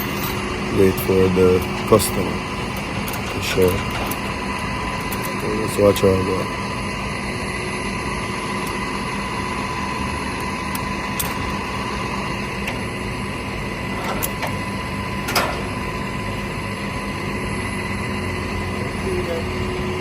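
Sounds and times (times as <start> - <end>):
truck machinery hum: 0.0 - 20.0.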